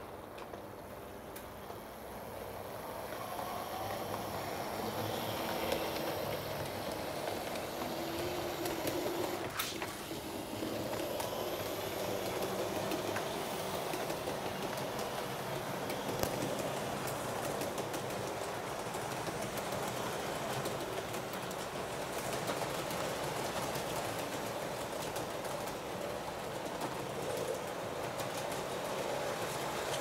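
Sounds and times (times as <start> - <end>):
model train rumbling on track: 0.0 - 30.0.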